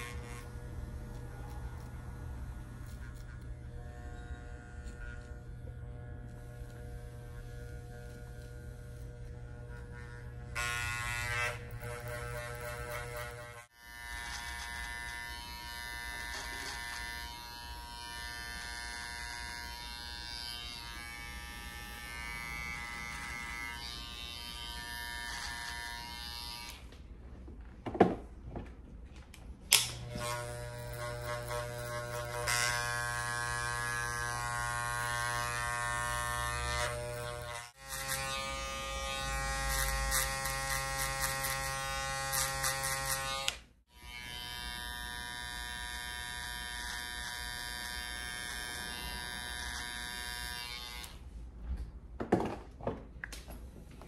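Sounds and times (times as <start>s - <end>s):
hair clipper buzzing: 0.0s - 26.9s, 29.7s - 51.2s.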